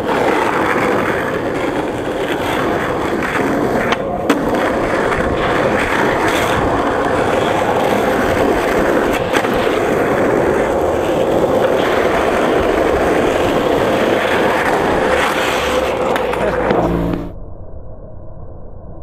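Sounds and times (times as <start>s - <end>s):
skateboard wheels rolling on asphalt: 0.0s - 17.4s.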